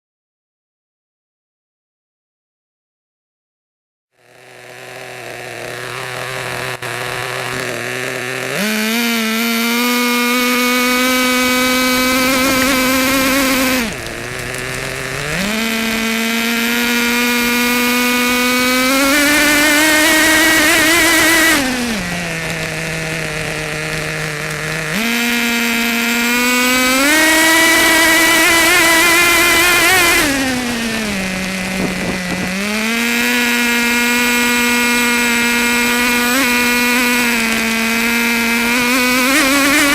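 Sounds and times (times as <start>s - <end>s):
nitro rc engine revving: 4.2s - 39.9s.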